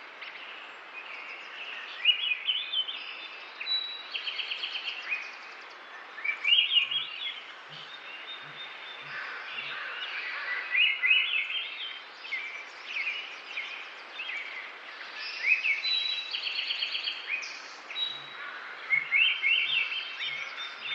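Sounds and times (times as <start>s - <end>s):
songbirds chirping and trilling: 0.0s - 20.9s.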